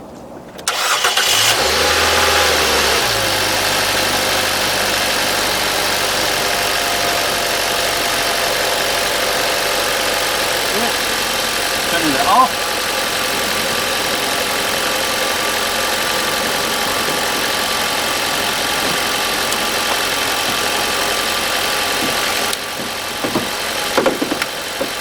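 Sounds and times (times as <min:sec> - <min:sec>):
car engine idling: 0:00.6 - 0:25.0.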